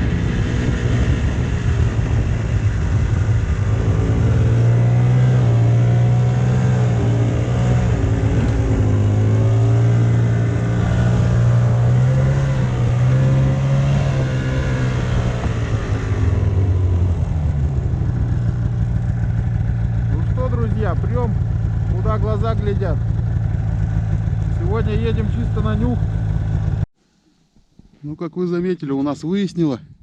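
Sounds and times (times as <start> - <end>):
snowmobile engine running: 0.0 - 26.8.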